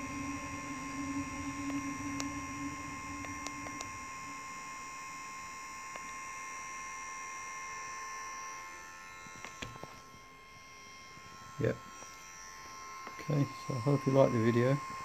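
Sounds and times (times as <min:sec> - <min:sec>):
hot air gun fan humming: 0:00.0 - 0:15.0.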